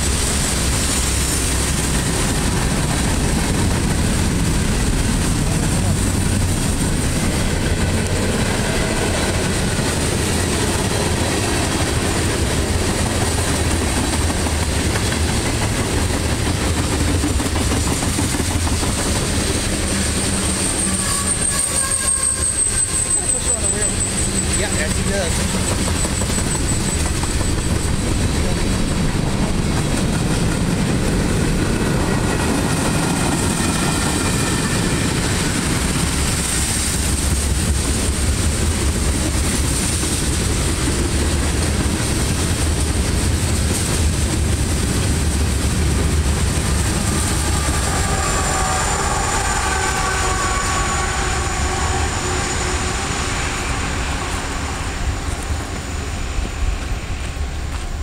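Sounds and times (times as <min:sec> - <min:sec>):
freight train wheels clattering: 0:00.0 - 0:58.0.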